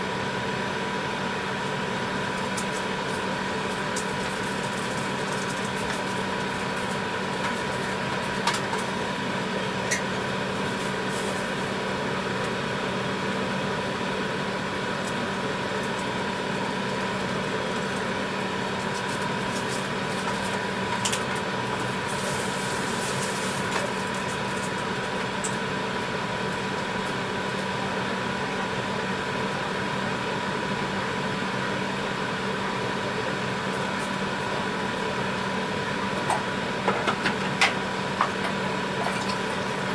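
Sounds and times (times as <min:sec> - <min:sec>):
kitchen machine hum: 0:00.0 - 0:39.9
sauce boiling: 0:00.2 - 0:29.4, 0:30.2 - 0:39.9.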